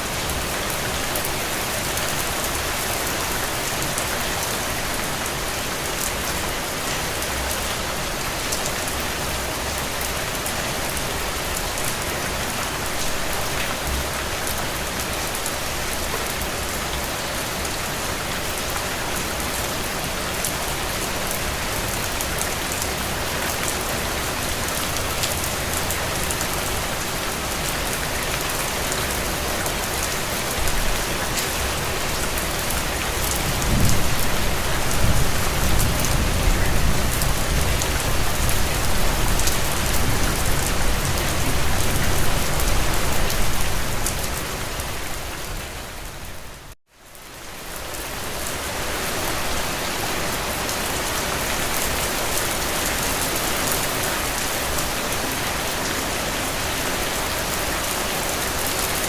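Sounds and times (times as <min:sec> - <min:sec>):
rain on a window: 0:00.1 - 0:49.8.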